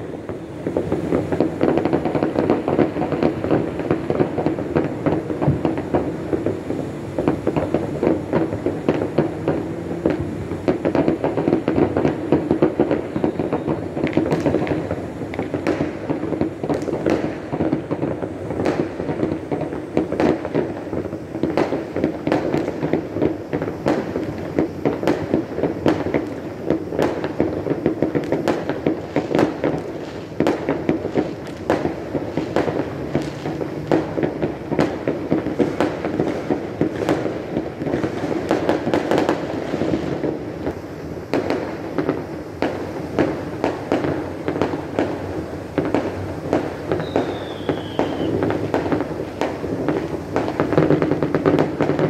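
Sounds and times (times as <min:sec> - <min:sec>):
distant fireworks bangs: 0:00.0 - 0:52.0
firecracker pops and crackles: 0:00.0 - 0:52.0.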